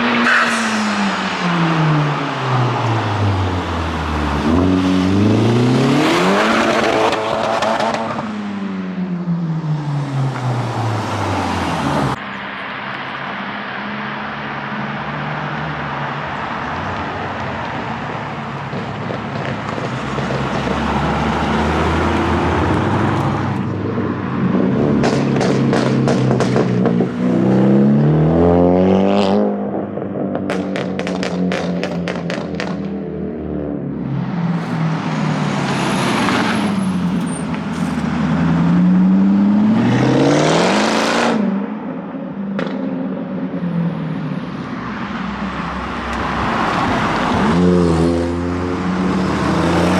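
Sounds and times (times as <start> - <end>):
car engines revving: 0.0 - 49.9
cars driving past: 0.0 - 49.9.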